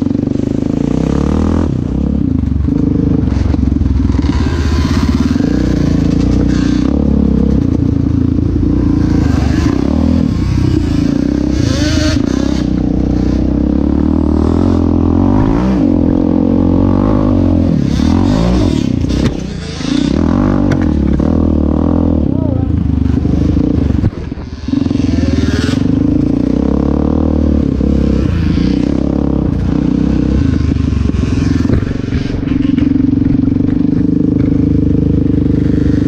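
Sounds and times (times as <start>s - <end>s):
quad bike engine revving: 0.0s - 36.0s.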